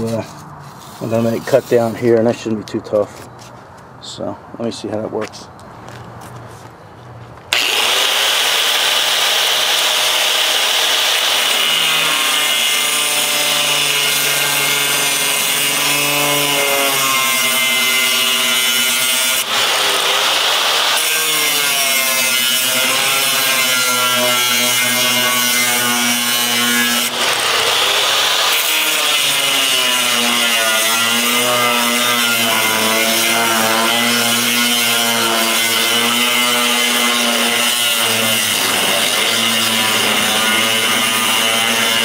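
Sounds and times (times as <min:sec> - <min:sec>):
angle grinder cutting steel: 0:07.5 - 0:42.0.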